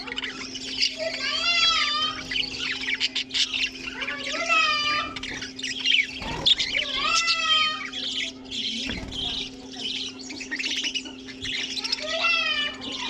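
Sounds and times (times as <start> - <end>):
budgerigars and cockatiels chattering: 0.0 - 13.0
steady low hum: 0.0 - 13.0.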